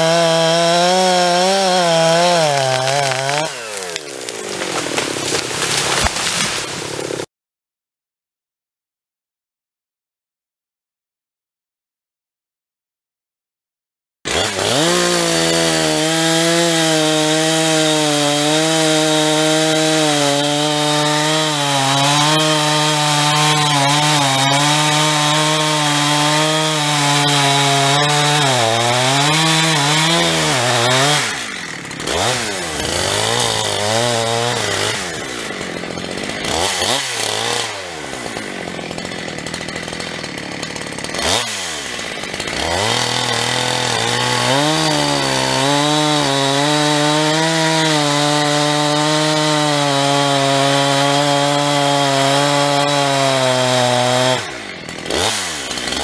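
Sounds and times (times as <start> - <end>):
chainsaw cutting tree trunk: 0.0 - 7.3, 14.3 - 56.0.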